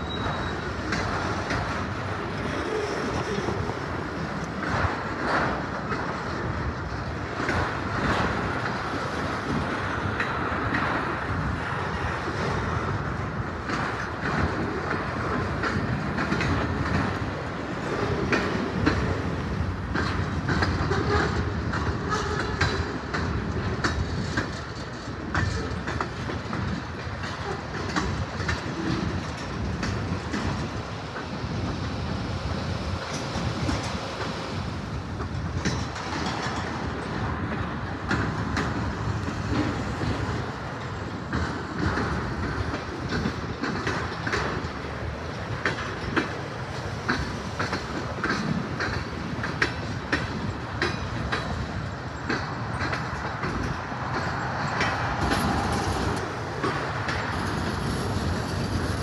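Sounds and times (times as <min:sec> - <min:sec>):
freight cars rumbling: 0:00.0 - 0:59.0
wheels clanking over rail joints: 0:00.0 - 0:59.0.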